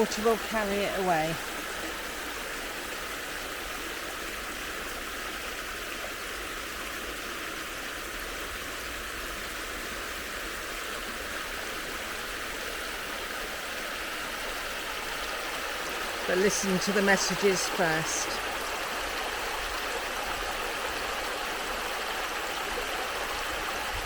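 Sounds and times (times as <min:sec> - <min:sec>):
stream rippling over stones: 0:00.0 - 0:24.0.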